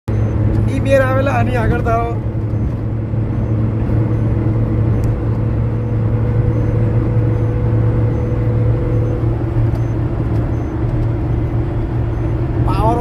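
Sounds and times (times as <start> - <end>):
road noise: 0.0 - 13.0
car engine hum: 0.1 - 13.0.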